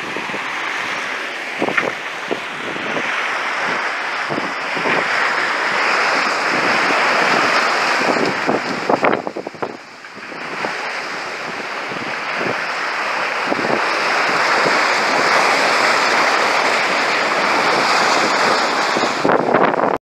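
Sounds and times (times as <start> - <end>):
water rushing along boat hull: 0.0 - 20.0
wind noise on microphone: 0.0 - 20.0.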